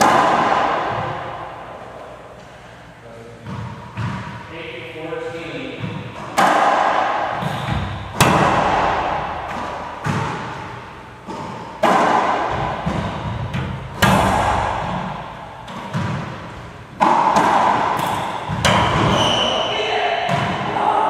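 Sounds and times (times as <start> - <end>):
racquetball ball hits echoing: 0.0 - 2.3, 3.4 - 4.5, 5.7 - 20.8.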